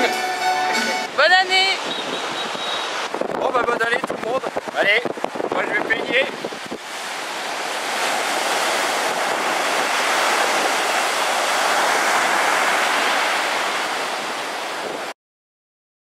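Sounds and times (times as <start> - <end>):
surf washing up a beach: 1.0 - 15.2.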